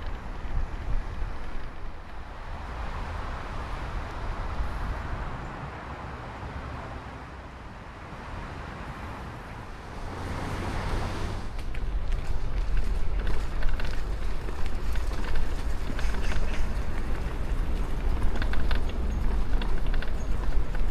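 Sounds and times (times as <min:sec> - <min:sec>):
wind rumbling on microphone: 0:00.0 - 0:20.9.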